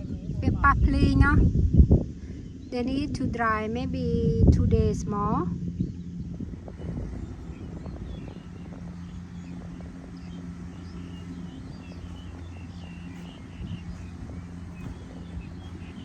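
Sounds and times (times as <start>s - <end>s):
combine harvester engine drone: 0.0s - 16.0s
small birds chirping: 0.0s - 16.0s.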